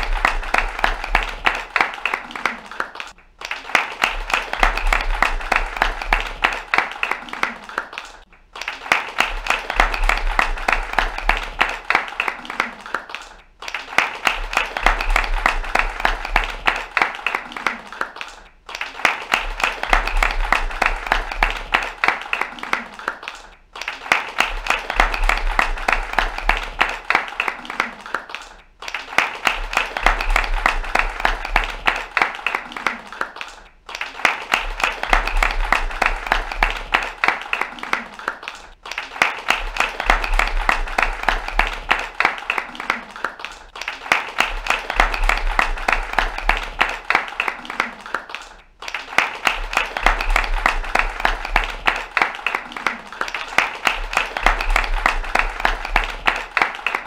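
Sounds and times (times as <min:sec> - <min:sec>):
audience applause: 0:00.0 - 0:57.0.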